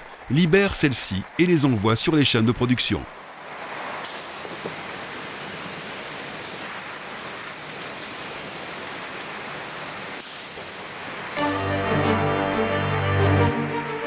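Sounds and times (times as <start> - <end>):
bottling machinery and conveyors running: 0.0 - 3.1, 3.8 - 12.2.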